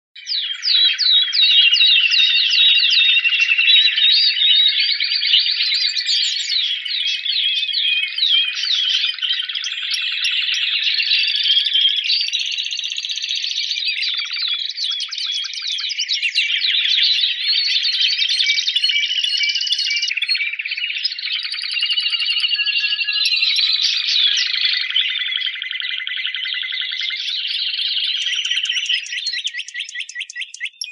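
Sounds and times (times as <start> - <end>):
canary singing: 0.2 - 30.9.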